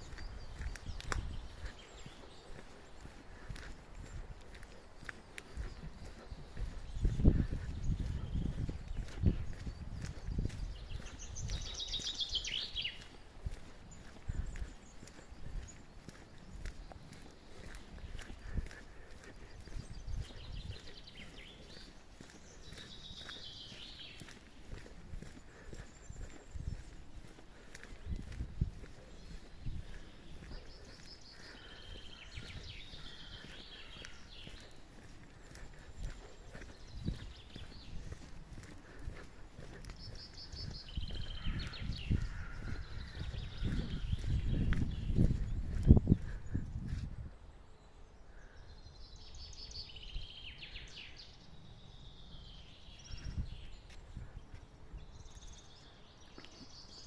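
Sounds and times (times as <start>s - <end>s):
bird chirping: 0.0s - 46.5s
outdoor background noise: 0.0s - 57.0s.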